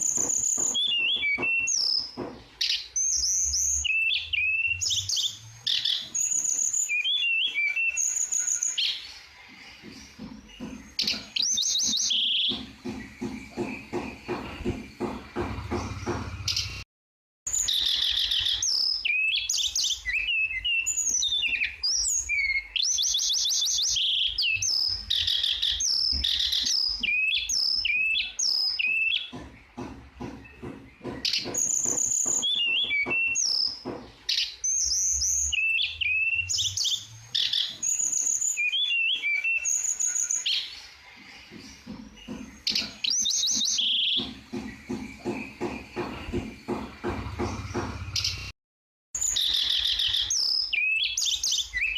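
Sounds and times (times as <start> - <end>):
songbird chirping and trilling: 0.0 - 16.8, 17.5 - 48.5, 49.2 - 51.9.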